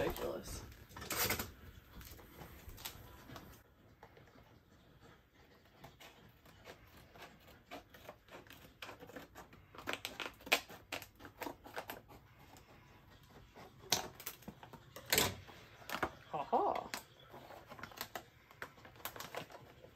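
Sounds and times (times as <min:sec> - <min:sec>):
plastic crinkling: 0:00.0 - 0:19.9.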